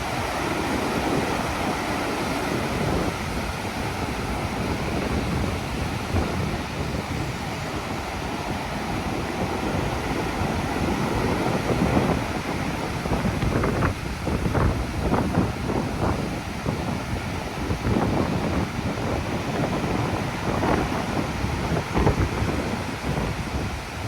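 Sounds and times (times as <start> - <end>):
gusty wind buffeting microphone: 0.0 - 24.0.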